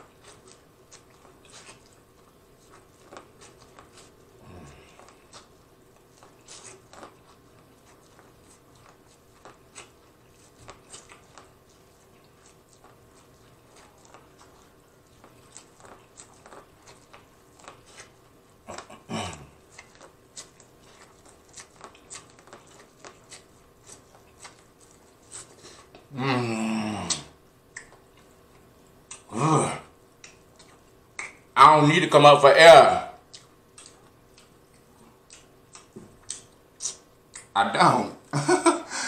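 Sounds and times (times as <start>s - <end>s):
chewing corn on the cob: 0.0s - 31.6s, 33.2s - 37.6s.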